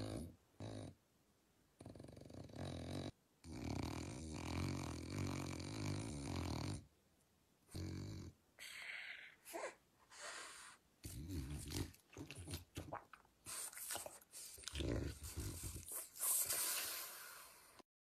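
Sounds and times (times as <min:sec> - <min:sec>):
dog snoring: 0:00.0 - 0:01.0, 0:01.8 - 0:06.9, 0:07.7 - 0:10.4, 0:11.0 - 0:12.9, 0:13.8 - 0:17.6.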